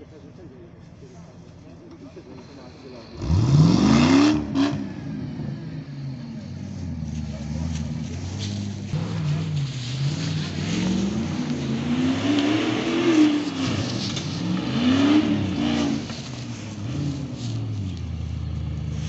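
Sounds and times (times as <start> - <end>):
off-road vehicle engine revving: 1.9 - 19.0.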